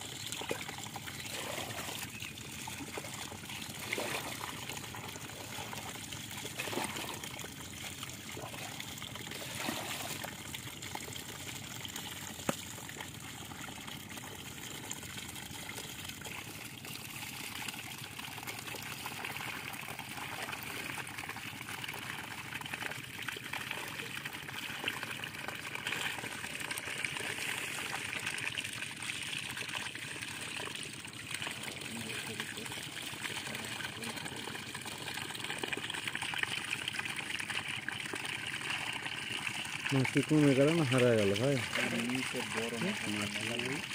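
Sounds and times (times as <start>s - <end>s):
muddy water pouring: 0.0s - 43.9s.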